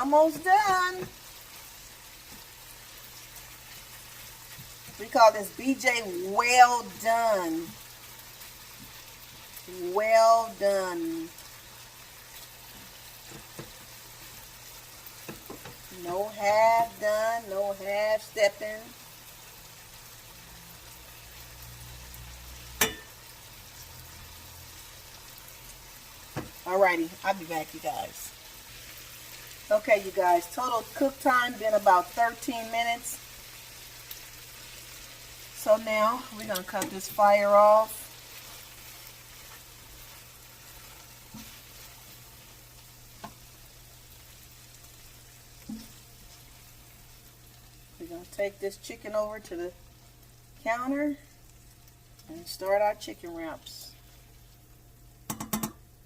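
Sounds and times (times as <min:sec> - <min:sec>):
chicken sizzling in a frying pan: 0:00.0 - 0:56.0.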